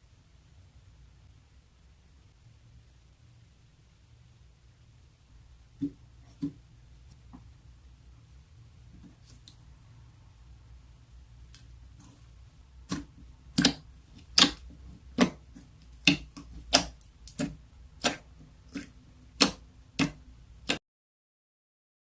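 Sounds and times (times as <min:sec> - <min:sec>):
faint low hum: 0:00.0 - 0:20.7.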